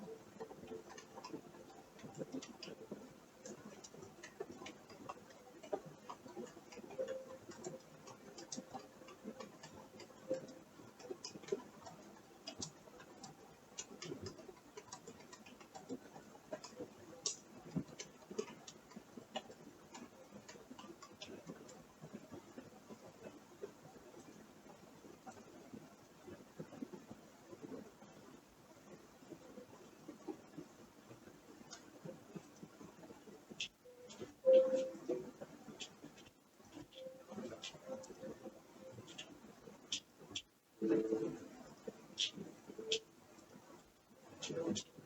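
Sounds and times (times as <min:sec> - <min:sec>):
faint irregular ticking: 0:00.0 - 0:45.0.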